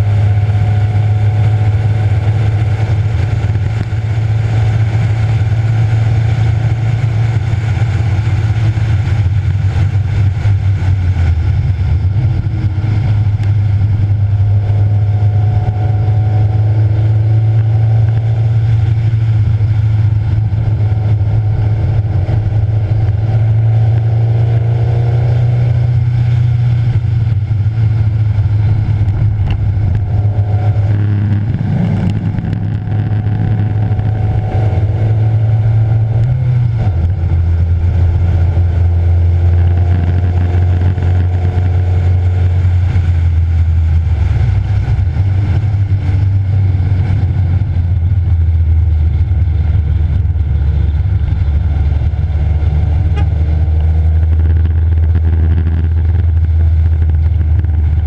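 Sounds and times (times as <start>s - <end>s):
race car engine at speed: 0.0s - 58.0s
road and wind noise: 0.0s - 58.0s.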